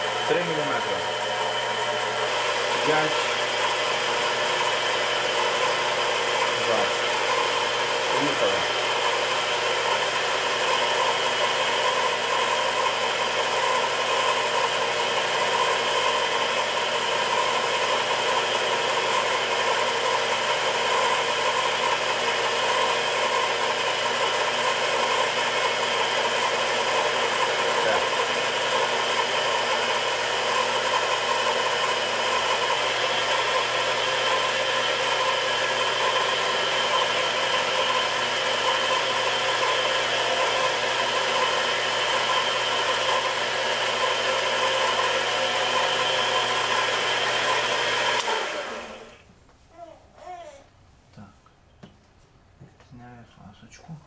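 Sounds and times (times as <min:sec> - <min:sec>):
lathe motor hum and whine: 0:00.0 - 0:49.3.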